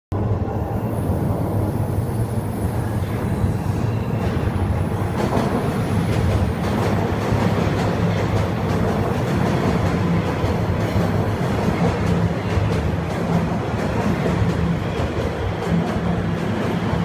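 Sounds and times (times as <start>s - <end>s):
train wheels rumbling on rails: 0.2s - 17.0s.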